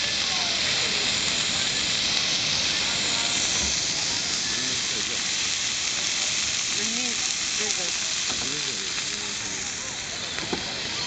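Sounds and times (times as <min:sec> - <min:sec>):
beef sizzling on a grill: 0:00.0 - 0:11.0.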